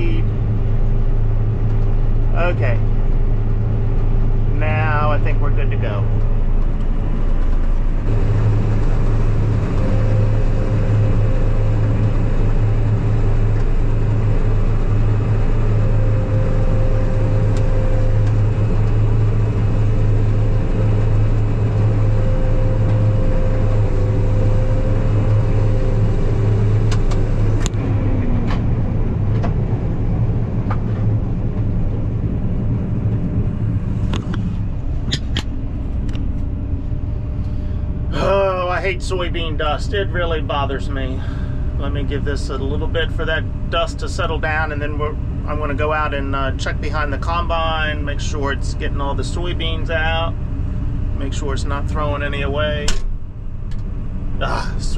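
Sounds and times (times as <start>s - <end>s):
combine harvester engine drone: 0.0s - 54.9s
thin machine whine: 4.0s - 54.9s.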